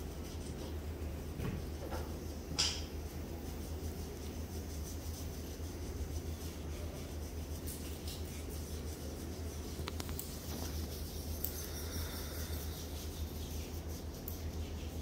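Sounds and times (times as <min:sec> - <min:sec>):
steady low hum: 0:00.0 - 0:15.0
hands rubbing skin: 0:02.1 - 0:15.0.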